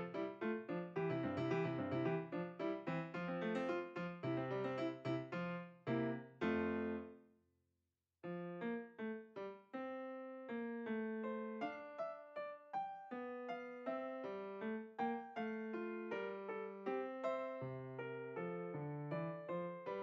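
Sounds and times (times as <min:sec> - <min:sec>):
piano music: 0:00.0 - 0:07.1, 0:08.3 - 0:20.0.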